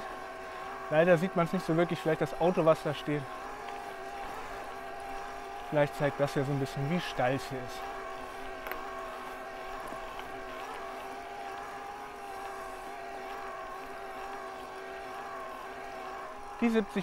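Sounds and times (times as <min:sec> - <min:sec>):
e-bike motor whining: 0:00.0 - 0:17.0.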